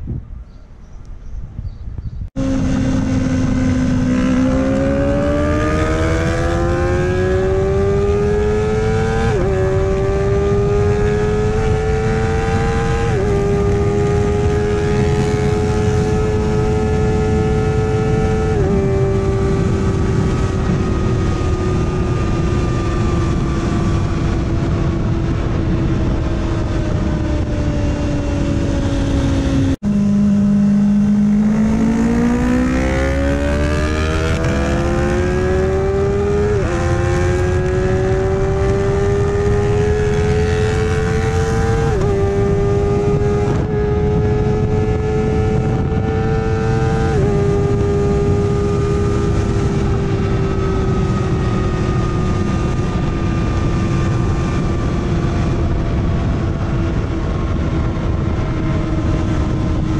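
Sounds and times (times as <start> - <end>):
wind rushing over microphone: 0.0 - 59.9
motorcycle engine revving: 2.3 - 59.9.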